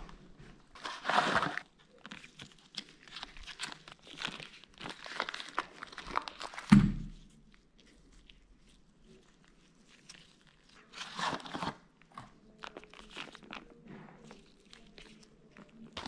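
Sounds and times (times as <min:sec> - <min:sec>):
plastic wrapping crinkling and tearing: 0:00.7 - 0:16.0.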